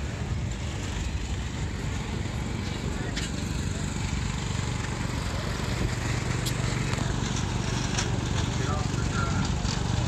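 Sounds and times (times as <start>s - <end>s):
crowd chatter: 0.0s - 10.0s
small engine running: 0.0s - 10.0s.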